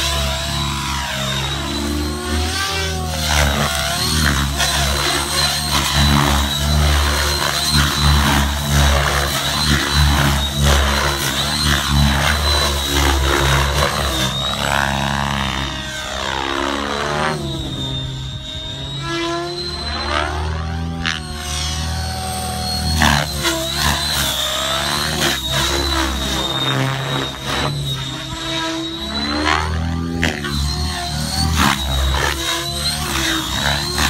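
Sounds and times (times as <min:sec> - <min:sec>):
motor whine: 0:00.0 - 0:34.0
rc helicopter rotor chopping: 0:00.0 - 0:34.0.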